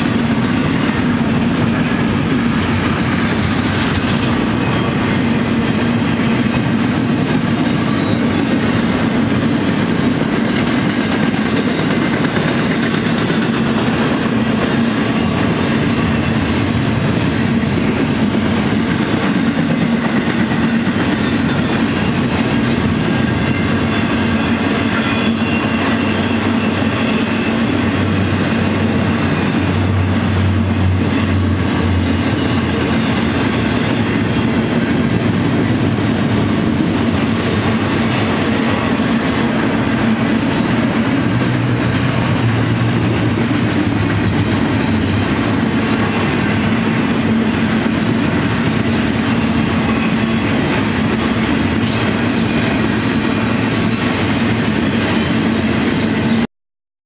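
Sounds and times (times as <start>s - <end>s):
train wheels on rails: 0.0s - 56.5s.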